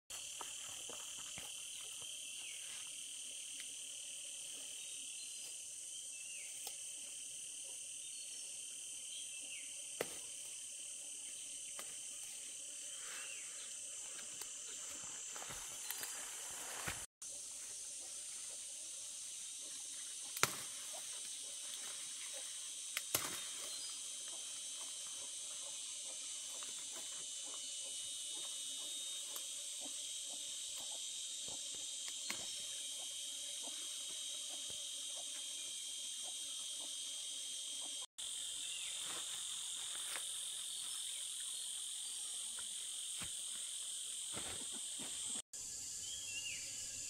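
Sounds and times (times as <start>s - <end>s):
shrill insect chorus: 0.1s - 47.0s.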